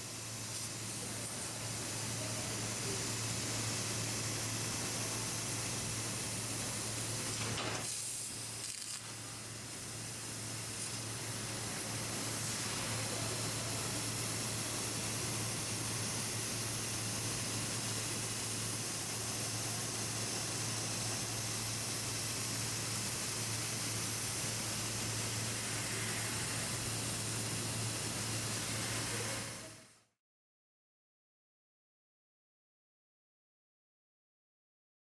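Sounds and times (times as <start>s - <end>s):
laser cutter gas jet hiss: 0.0s - 30.0s.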